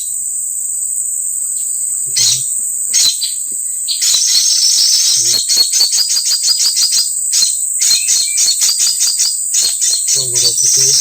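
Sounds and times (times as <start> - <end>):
shrill insect drone: 0.0 - 11.0
whistled bird notes: 1.6 - 11.0
sharp chirps: 2.2 - 11.0.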